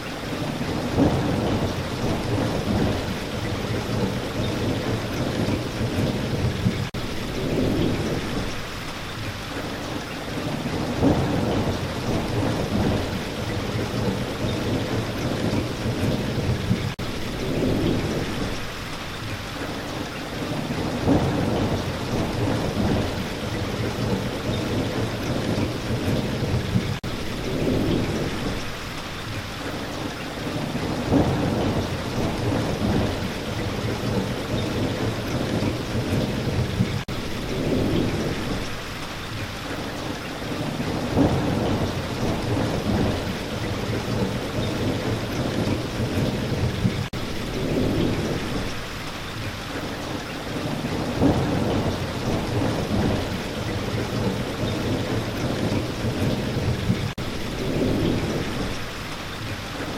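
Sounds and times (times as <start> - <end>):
steady rain falling: 0.0 - 59.9
rolling thunder rumbles: 0.2 - 18.9, 20.4 - 28.9, 29.6 - 59.9.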